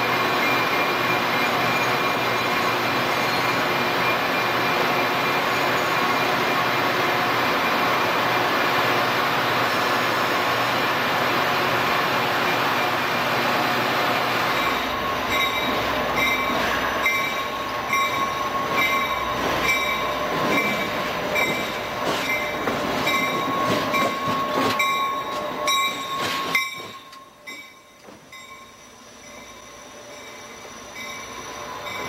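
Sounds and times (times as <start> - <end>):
train wheels squealing: 0.0 - 10.4, 11.8 - 32.0
passenger train rolling past: 0.0 - 32.0.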